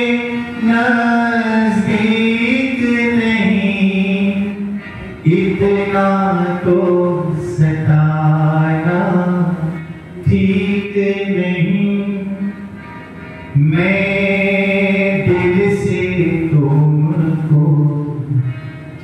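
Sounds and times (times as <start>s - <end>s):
man singing devotional song: 0.0s - 12.6s, 13.5s - 18.8s.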